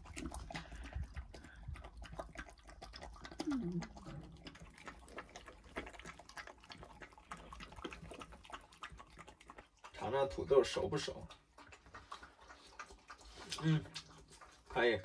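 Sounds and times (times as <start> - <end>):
puppy eating from metal bowl: 0.0 - 15.0.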